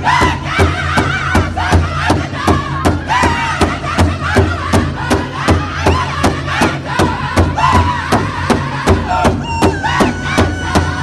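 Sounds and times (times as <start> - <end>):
group singing in high voices: 0.0 - 11.0
large hand drum beats: 0.0 - 11.0.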